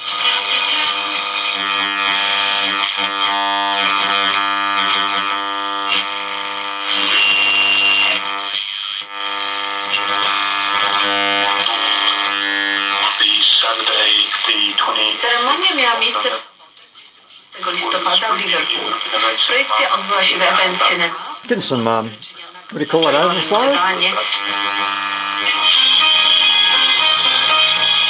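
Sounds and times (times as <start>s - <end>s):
music from small radio speaker: 0.0s - 21.5s, 22.1s - 28.0s.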